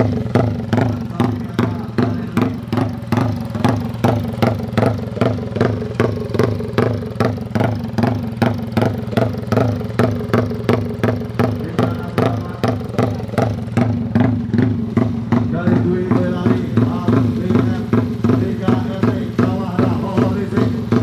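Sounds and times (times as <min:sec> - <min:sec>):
motorcycle engine idling lumpily: 0:00.0 - 0:21.0.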